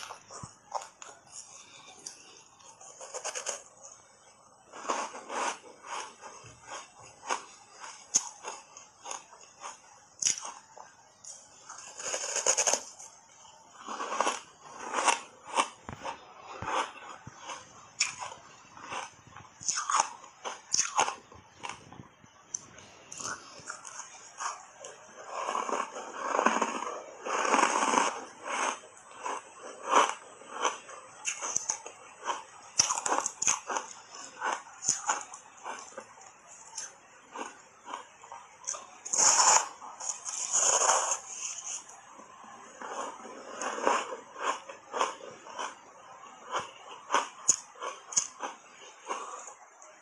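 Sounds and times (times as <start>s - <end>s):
ice crunching in mouth: 4.8s - 13.0s, 13.7s - 49.6s.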